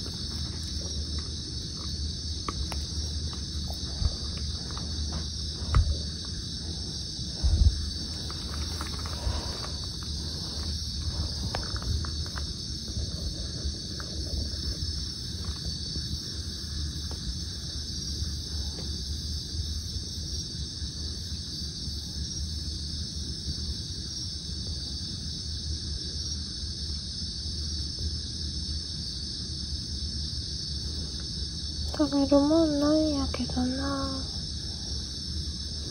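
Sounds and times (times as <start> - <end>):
night insects trilling: 0.0 - 35.9.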